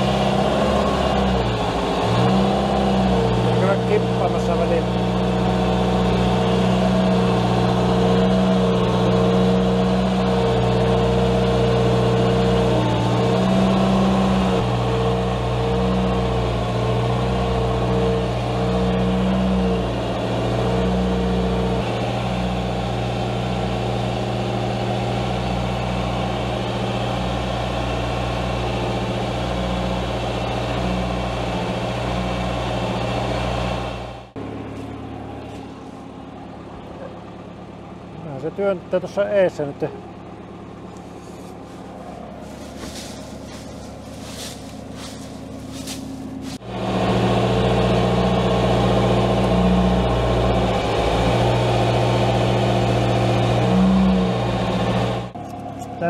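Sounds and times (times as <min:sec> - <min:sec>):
loader engine running: 0:00.0 - 0:56.0.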